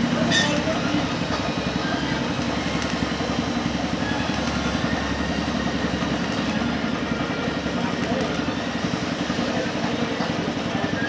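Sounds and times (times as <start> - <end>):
engine droning: 0.0 - 11.0
welding arc crackling: 0.1 - 9.6.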